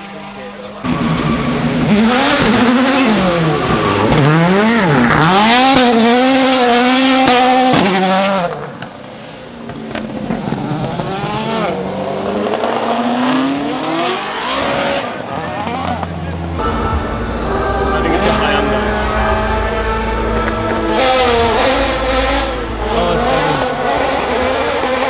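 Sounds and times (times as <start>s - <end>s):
car engine accelerating: 0.0s - 25.0s
rally car engine revving hard: 0.0s - 25.0s.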